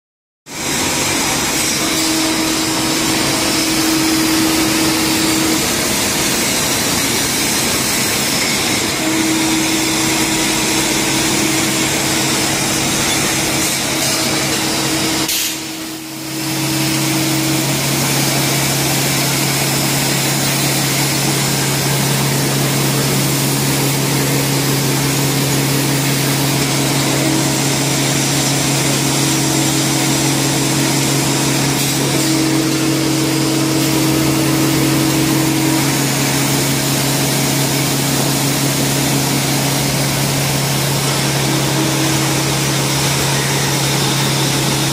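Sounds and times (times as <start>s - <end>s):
factory machinery running: 0.5s - 44.9s.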